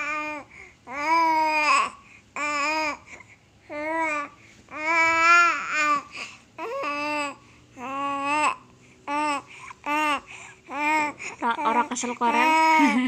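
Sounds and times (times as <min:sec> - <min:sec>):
baby babbling: 0:00.0 - 0:03.1, 0:03.7 - 0:13.0.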